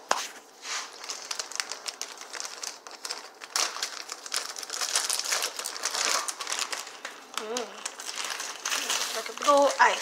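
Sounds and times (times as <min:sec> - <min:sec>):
plastic bag crinkling: 0:00.7 - 0:10.0.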